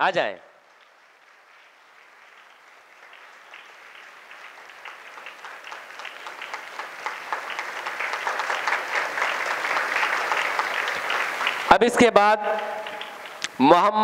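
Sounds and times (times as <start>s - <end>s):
audience applauding: 0.6s - 13.6s.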